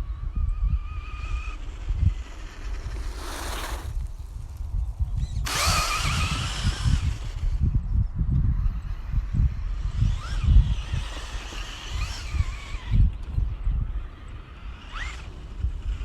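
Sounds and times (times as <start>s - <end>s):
wind buffeting microphone: 0.0s - 16.0s
electric motor whining: 0.1s - 16.0s.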